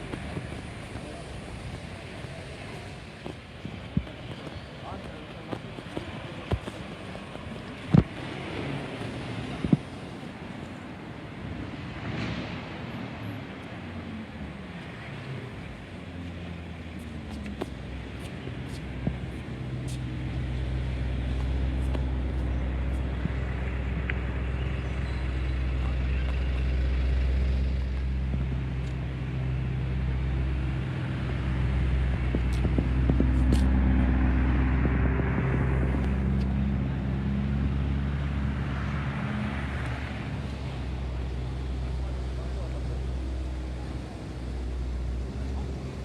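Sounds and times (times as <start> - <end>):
street traffic: 0.0 - 46.0
vehicles passing: 0.0 - 46.0.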